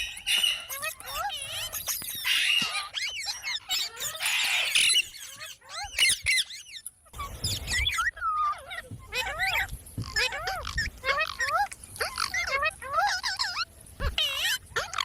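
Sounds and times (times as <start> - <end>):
parrot squeaking and squawking: 0.0 - 15.0.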